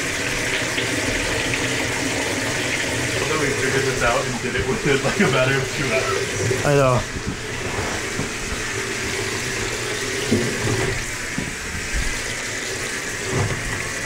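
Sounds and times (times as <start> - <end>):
water pouring into washing machine: 0.0 - 14.0.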